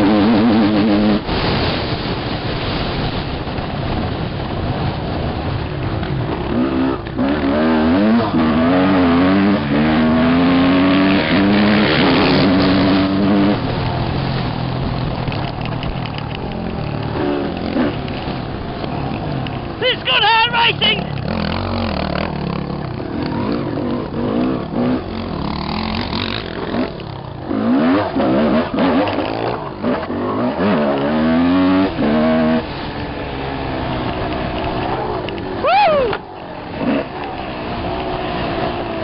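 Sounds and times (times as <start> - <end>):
steady rushing noise: 0.0 - 39.0
dirt bike engine revving: 5.2 - 39.0.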